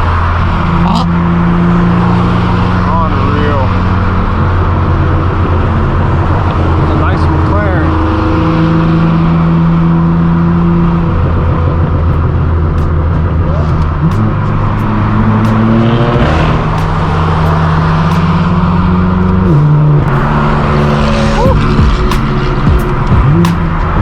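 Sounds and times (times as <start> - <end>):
car engine running through exhaust: 0.0 - 24.0.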